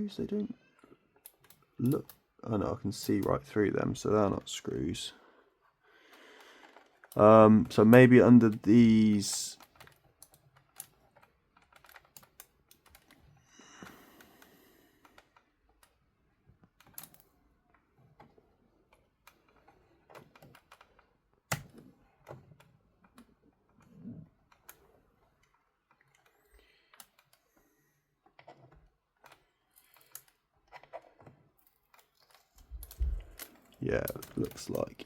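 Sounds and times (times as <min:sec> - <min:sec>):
keyboard handling clicks and scrapes: 0:06.1 - 0:35.0.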